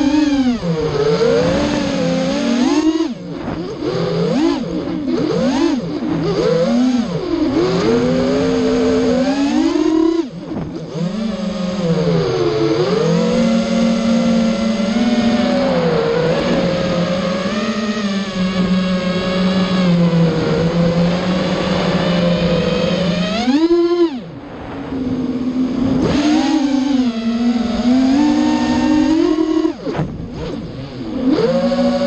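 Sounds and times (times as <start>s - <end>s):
quadcopter motors whining: 0.0s - 32.0s.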